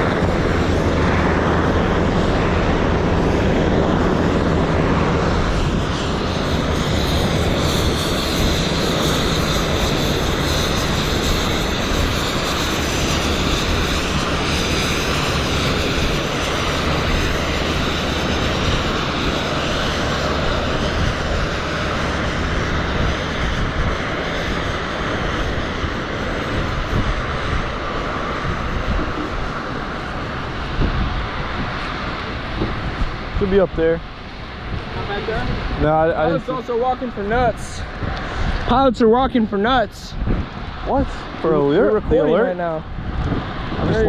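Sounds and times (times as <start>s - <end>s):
high-pitched engine whine: 0.0s - 44.0s
jet engines roaring: 0.0s - 44.0s.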